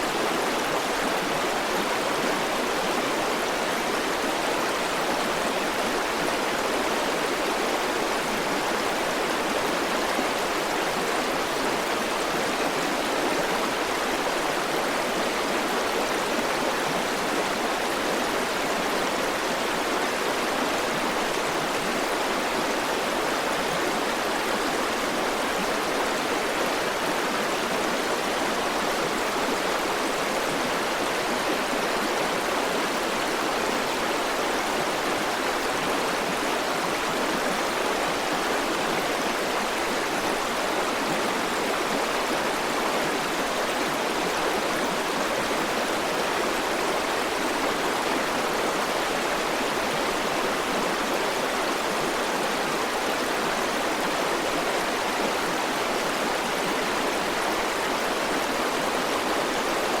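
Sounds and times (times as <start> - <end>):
river water flowing over rocks: 0.0 - 60.0.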